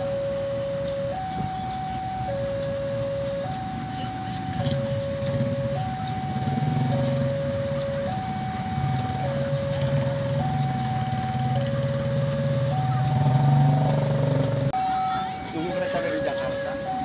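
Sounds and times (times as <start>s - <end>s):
level-crossing two-tone alarm: 0.0s - 13.9s, 14.6s - 17.0s
diesel train engine humming: 0.0s - 17.0s.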